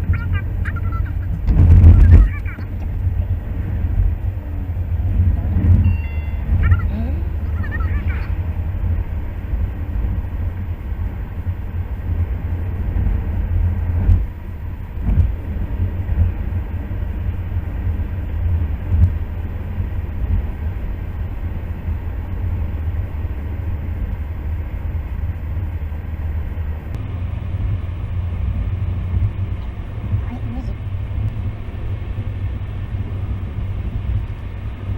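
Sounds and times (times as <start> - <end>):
car driving on road: 0.0 - 34.9.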